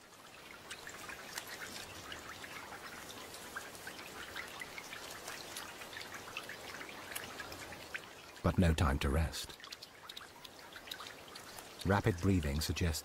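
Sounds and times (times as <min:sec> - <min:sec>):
steady rainfall: 0:00.0 - 0:13.0
raindrop clicks: 0:00.5 - 0:13.0.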